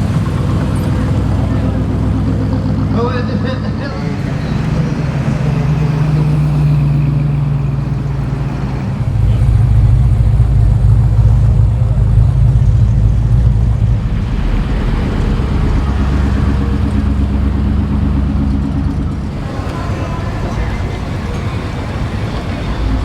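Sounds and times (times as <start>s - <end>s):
car engine pulsing note: 0.0s - 23.0s
deep car engine: 0.0s - 23.0s.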